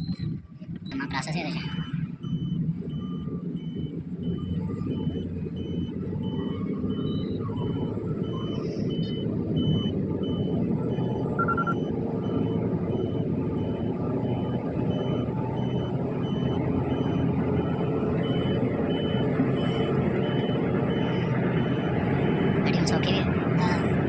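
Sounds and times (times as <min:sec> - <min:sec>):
car engine rumble: 0:00.0 - 0:24.0
faint high beep: 0:01.6 - 0:23.1.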